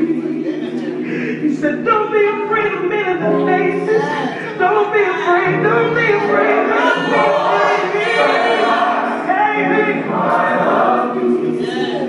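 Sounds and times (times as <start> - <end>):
gospel choir singing: 0.0 - 12.0
music: 0.0 - 12.0.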